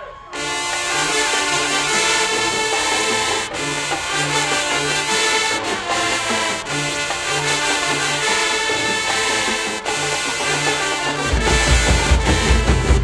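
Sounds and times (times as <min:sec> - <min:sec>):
marching band playing: 0:00.4 - 0:13.0.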